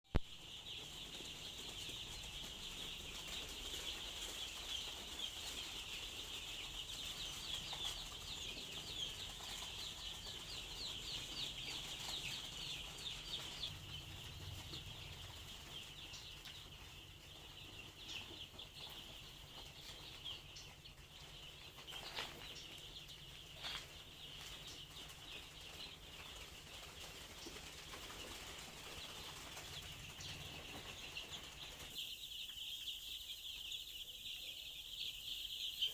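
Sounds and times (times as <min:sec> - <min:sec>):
chicks peeping: 0:00.1 - 0:35.9.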